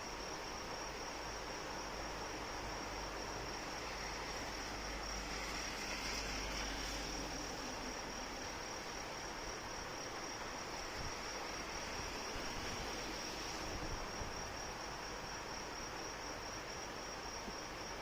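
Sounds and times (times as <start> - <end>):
insects trilling: 0.0 - 18.0
rain hiss: 0.0 - 18.0.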